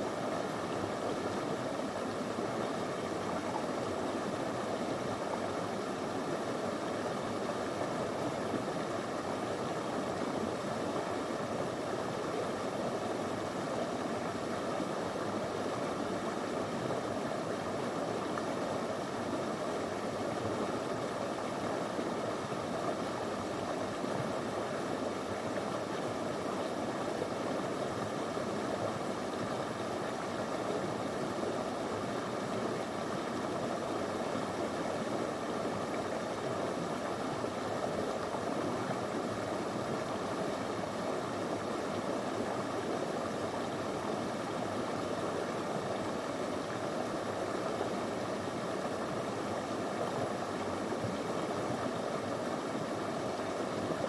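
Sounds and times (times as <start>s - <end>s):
river babbling over stones: 0.1s - 54.0s.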